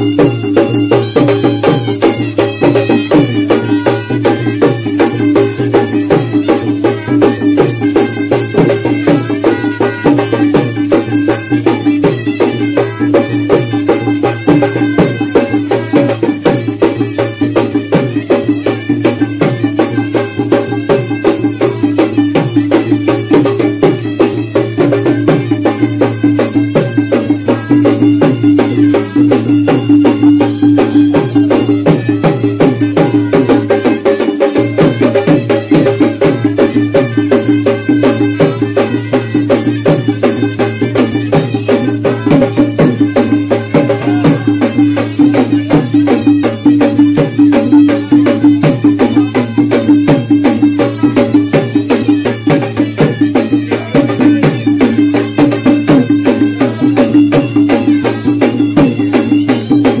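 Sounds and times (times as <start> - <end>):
folk band melody: 0.0 - 60.0
rattling percussion: 0.0 - 60.0
steady drum beat: 0.0 - 60.0.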